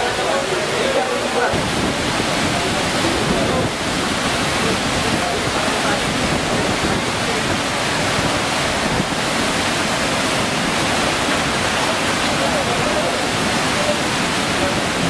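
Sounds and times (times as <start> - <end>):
rough sea surf: 0.0 - 15.0.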